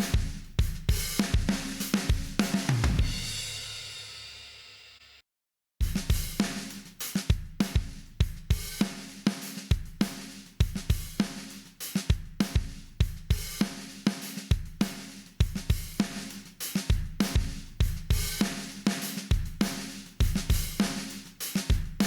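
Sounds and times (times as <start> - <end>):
drum kit beat: 0.0 - 4.9, 5.8 - 22.0.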